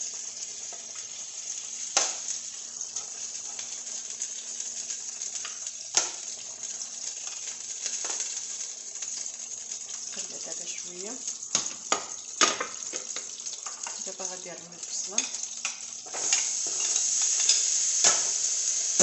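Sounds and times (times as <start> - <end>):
oil sizzling in a frying pan: 0.0 - 19.0.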